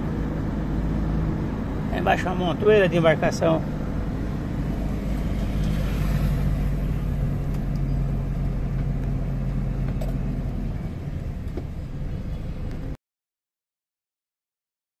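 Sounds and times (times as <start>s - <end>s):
car engine hum from inside cabin: 0.0s - 13.0s.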